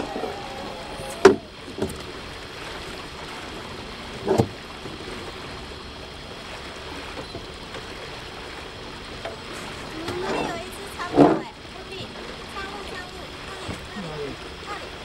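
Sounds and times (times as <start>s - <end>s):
water rushing past a boat hull: 0.0s - 15.0s.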